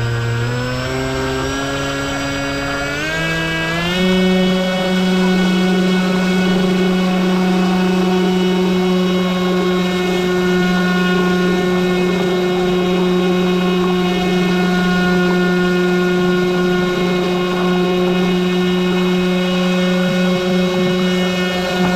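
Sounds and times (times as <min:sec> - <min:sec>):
electric motor and propeller hum: 0:00.0 - 0:21.9.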